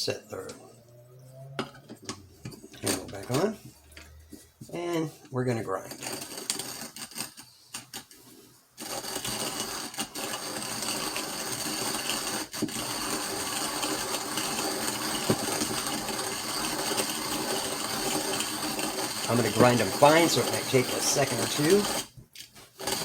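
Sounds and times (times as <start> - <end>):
coffee grinder grinding beans: 0.0 - 23.0.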